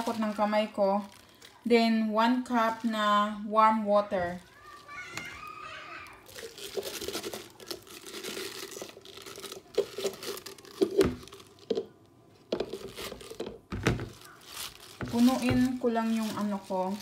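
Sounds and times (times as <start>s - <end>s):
spinach leaves rustling: 0.0s - 11.7s, 14.0s - 17.0s.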